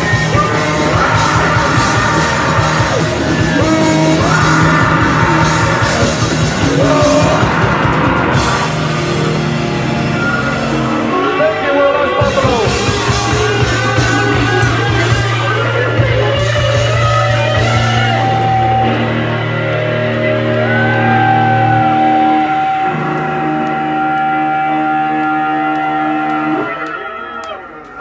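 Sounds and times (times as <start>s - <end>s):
live rock band playing: 0.0s - 26.7s
person singing: 0.0s - 27.6s.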